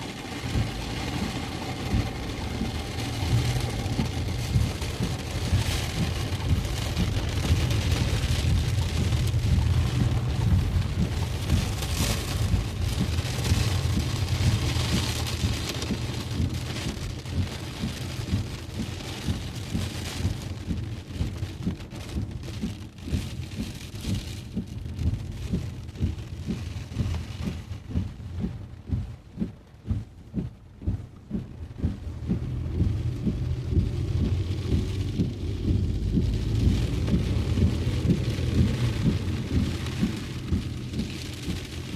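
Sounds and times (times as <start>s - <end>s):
heavy rain on a moving car: 0.0s - 41.9s
low rumble of engine and road: 0.0s - 41.9s.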